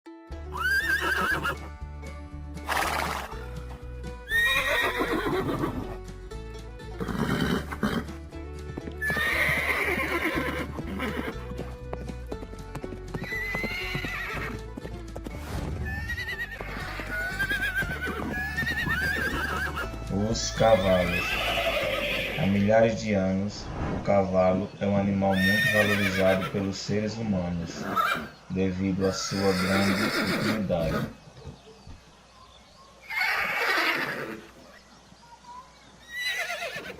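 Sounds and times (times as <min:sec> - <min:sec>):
horses neighing: 0:00.5 - 0:01.7, 0:02.6 - 0:23.1, 0:25.2 - 0:31.3, 0:33.0 - 0:34.8, 0:36.0 - 0:36.9.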